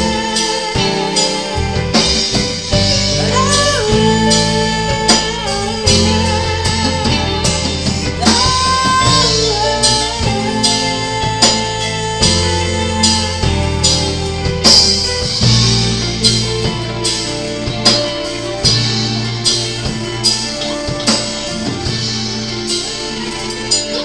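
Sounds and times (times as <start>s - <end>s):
drum beat: 0.0s - 23.2s
bass notes: 0.0s - 24.0s
guitar: 0.0s - 24.0s.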